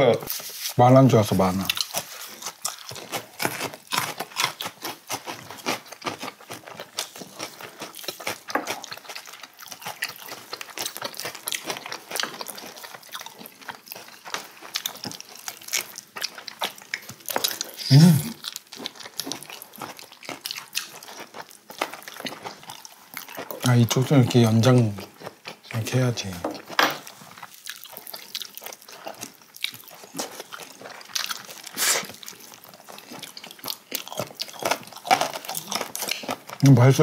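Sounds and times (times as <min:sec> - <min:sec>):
chewing and crunching: 0:00.0 - 0:37.0.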